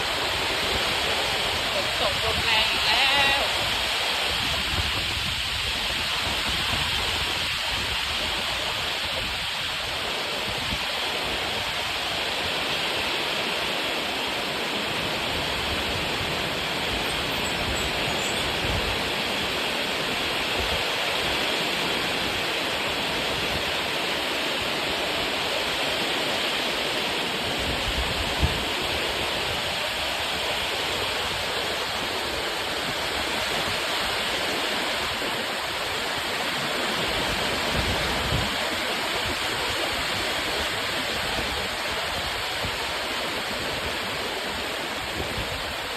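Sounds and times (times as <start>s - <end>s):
heavy rain pouring: 0.0s - 45.9s
wind gusting on microphone: 0.0s - 45.9s.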